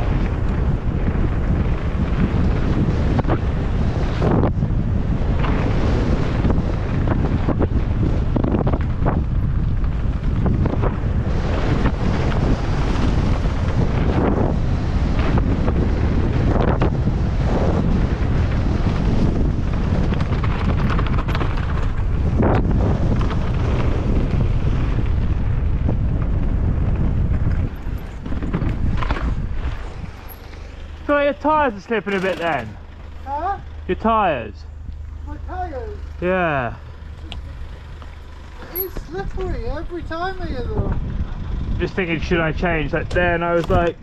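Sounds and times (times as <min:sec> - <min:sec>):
bike knocking and rattling: 0:00.0 - 0:33.9, 0:34.7 - 0:44.0
wind rushing over microphone: 0:00.0 - 0:44.0.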